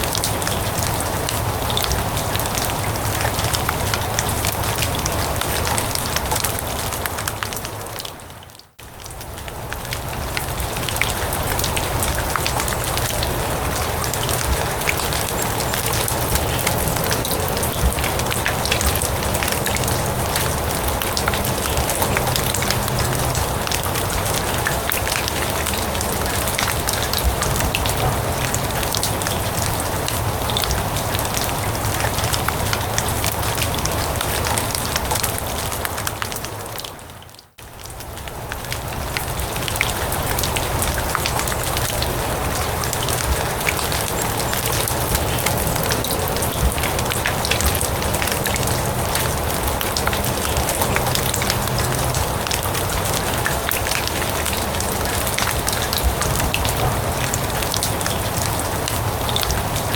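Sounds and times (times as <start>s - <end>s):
rain on grass and leaves: 0.0s - 59.9s.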